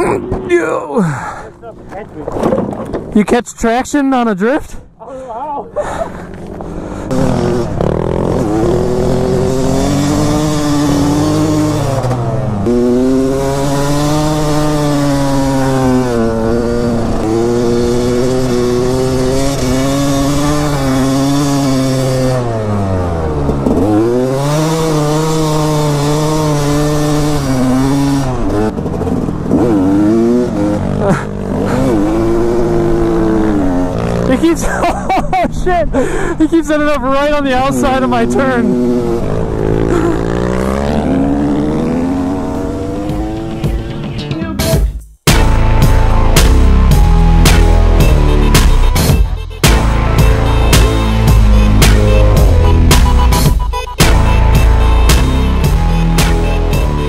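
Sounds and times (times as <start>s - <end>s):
dirt bike engine revving: 6.1s - 44.1s, 45.3s - 57.0s.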